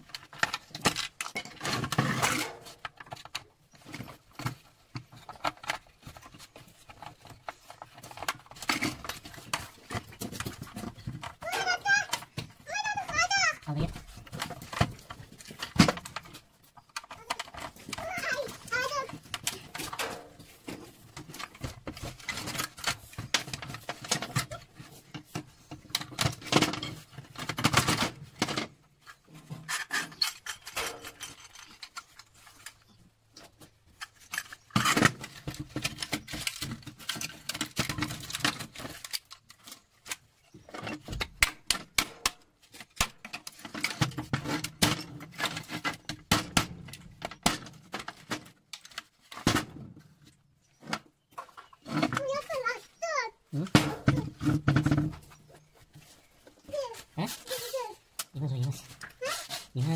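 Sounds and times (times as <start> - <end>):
plastic and metal parts clattering: 0.0 - 59.9.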